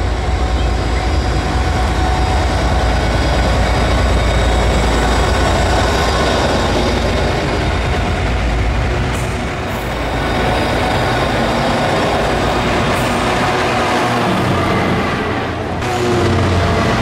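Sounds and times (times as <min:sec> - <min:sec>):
coaches rolling on rails: 0:00.0 - 0:17.0
diesel locomotive engine rumble: 0:00.0 - 0:17.0.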